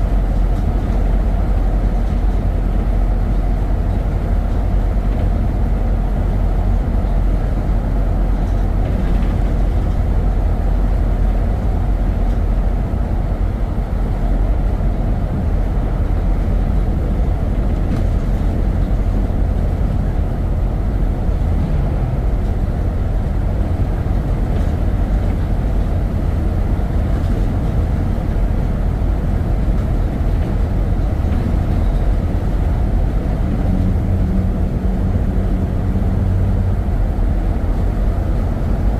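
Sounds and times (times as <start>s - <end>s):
vehicle road and wind noise: 0.0s - 38.9s.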